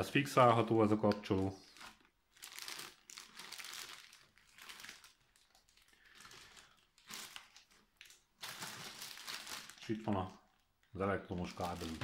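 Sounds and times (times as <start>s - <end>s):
plastic film crinkling: 0.6s - 12.0s.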